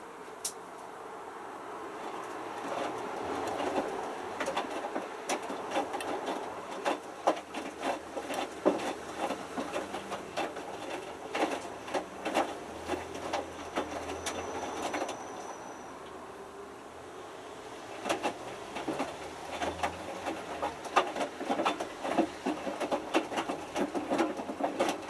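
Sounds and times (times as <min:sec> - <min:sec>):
water sloshing and splashing: 0:01.6 - 0:15.2, 0:17.2 - 0:25.0
washing machine drum tumbling: 0:02.0 - 0:15.2, 0:17.5 - 0:25.0.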